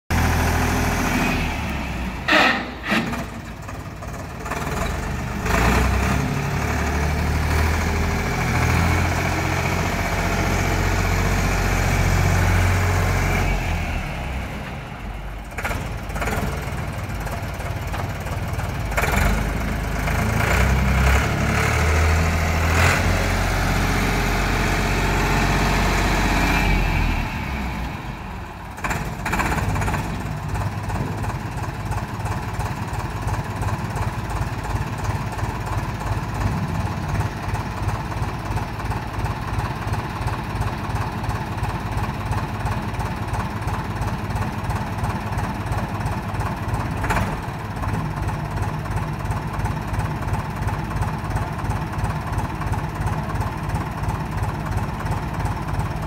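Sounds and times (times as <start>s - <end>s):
diesel engine rumbling: 0.1s - 56.0s.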